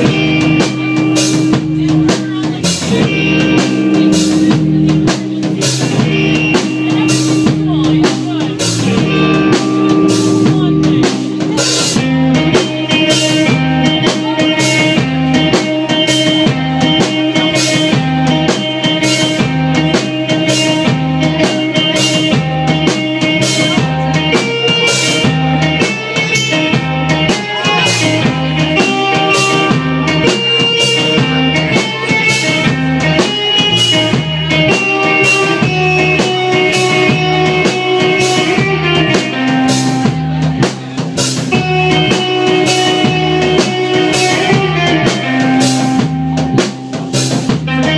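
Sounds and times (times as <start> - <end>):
drum kit beat: 0.0 - 47.9
rock band playing: 0.0 - 47.9
sustained guitar notes: 0.0 - 47.9.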